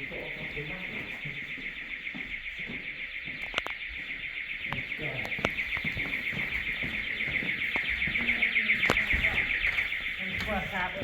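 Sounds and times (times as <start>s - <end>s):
intruder alarm warbling: 0.0s - 11.0s.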